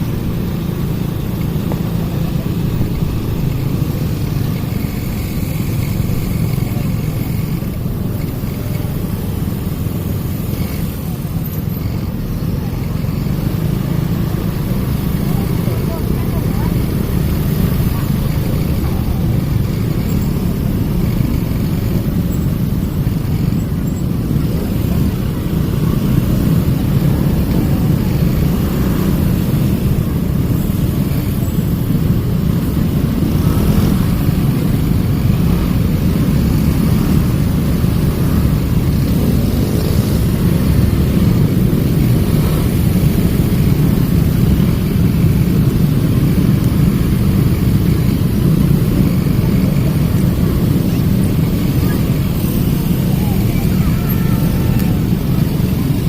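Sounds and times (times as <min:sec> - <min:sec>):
busy street traffic rumble: 0:00.0 - 0:56.0.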